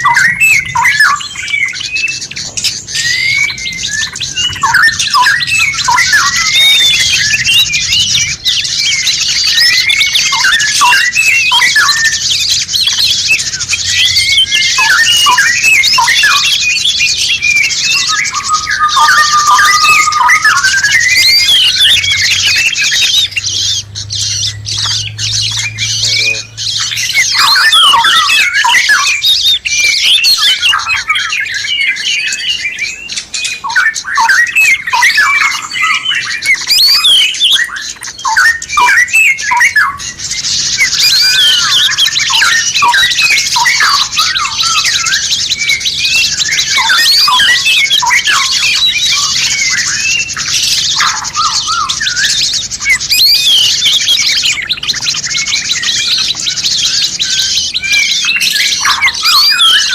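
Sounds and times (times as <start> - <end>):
songbird chorus: 0.0 - 59.9.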